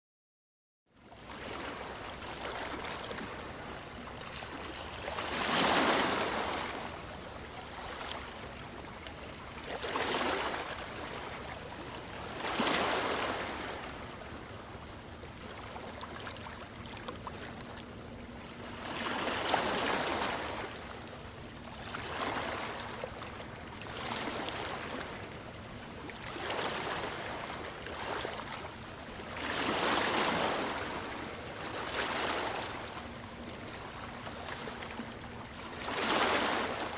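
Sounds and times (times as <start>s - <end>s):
ocean waves breaking on beach: 1.2s - 17.7s, 18.3s - 36.9s.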